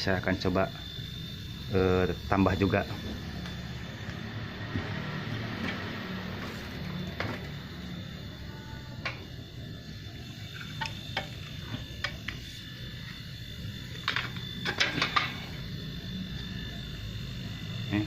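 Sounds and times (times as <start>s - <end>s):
compressor humming: 0.0s - 18.0s.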